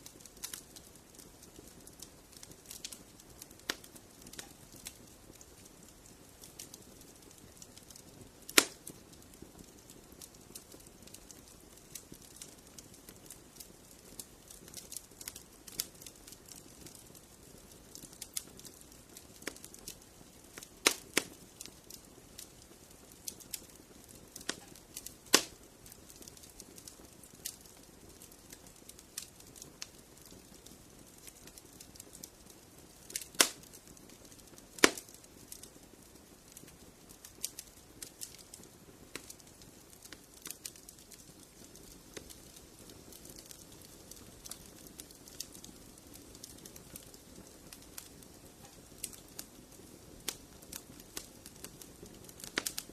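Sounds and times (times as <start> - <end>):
fire pops: 0.0 - 52.9
wood fire crackling: 0.0 - 52.9.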